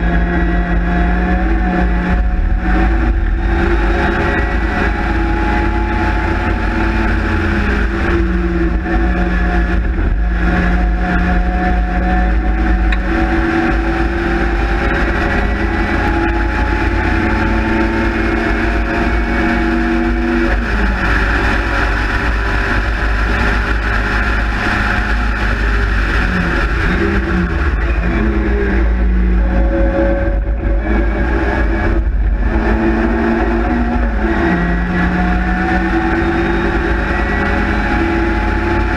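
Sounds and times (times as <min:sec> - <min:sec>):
race car engine running hard: 0:00.0 - 0:38.9
wind rush: 0:00.0 - 0:38.9.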